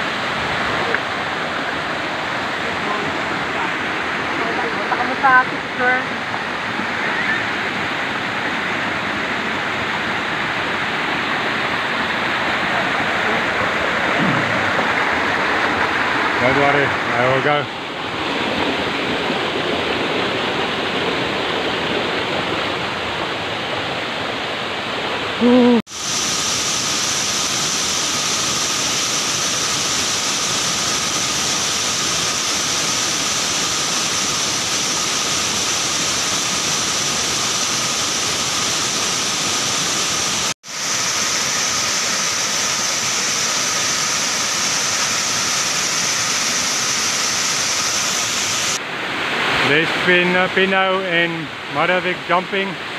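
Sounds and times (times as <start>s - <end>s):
water rushing over rocks: 0.0s - 52.9s.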